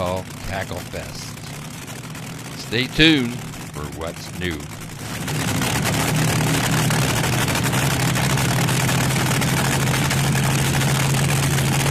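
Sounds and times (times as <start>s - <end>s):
dragster engine idling: 0.0s - 11.9s.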